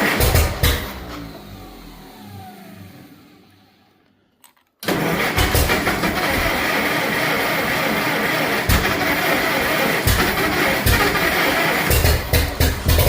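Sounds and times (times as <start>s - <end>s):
tractor engine: 0.0s - 13.0s.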